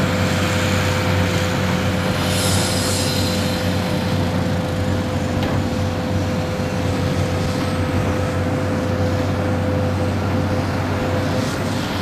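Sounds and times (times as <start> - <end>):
heavy diesel engines running: 0.0 - 12.0
thin steady whine: 0.0 - 12.0.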